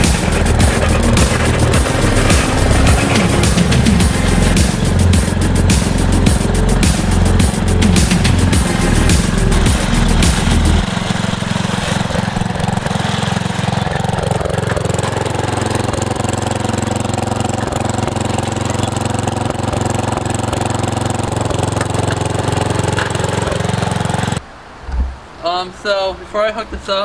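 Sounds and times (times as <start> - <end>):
small engine running: 0.0 - 24.4.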